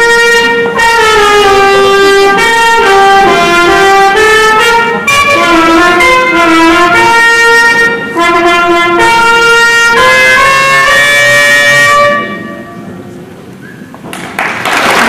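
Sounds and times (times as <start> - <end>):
band of flutes and brass: 0.0 - 12.9.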